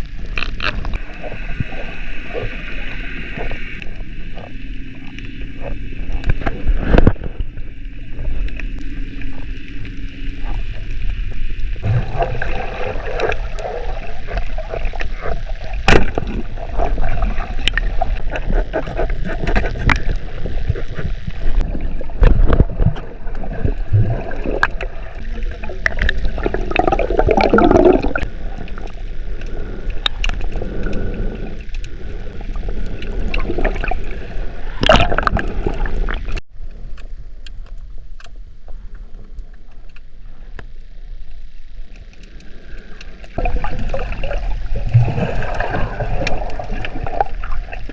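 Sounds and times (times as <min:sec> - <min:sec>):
water sloshing and gurgling: 0:00.0 - 0:47.9.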